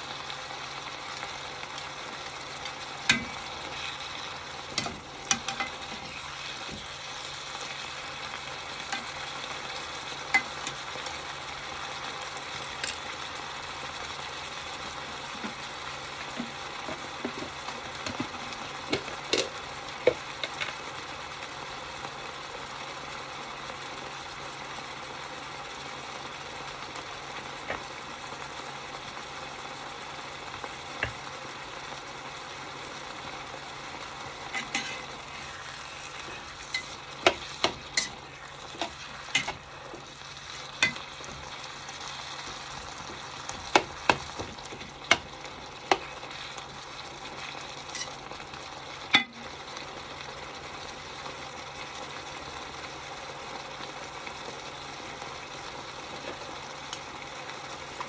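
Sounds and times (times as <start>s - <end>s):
meat and vegetables sizzling in a pot: 0.0s - 58.0s.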